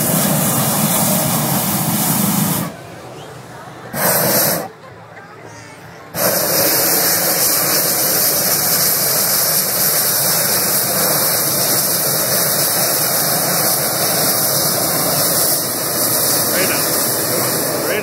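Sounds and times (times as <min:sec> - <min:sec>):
propane burner blast: 0:00.0 - 0:04.8, 0:06.1 - 0:18.0.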